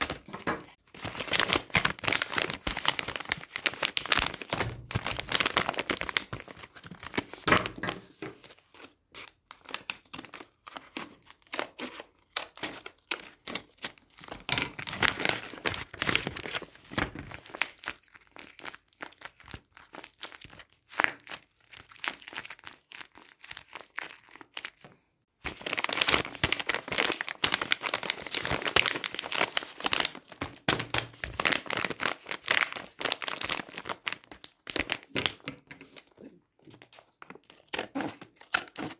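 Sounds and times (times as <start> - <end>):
plastic packaging crinkling and tearing: 0.0 - 8.8, 9.6 - 24.9, 25.5 - 38.9.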